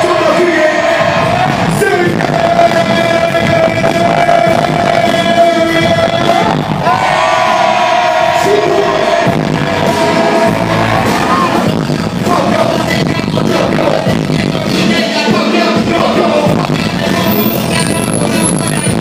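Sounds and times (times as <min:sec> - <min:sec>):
loud backing track: 0:00.0 - 0:19.0.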